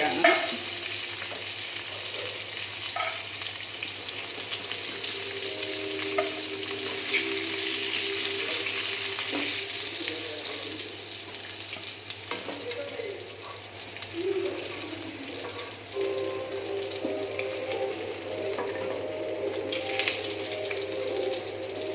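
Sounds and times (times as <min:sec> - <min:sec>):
chicken sizzling in oil: 0:00.0 - 0:21.9.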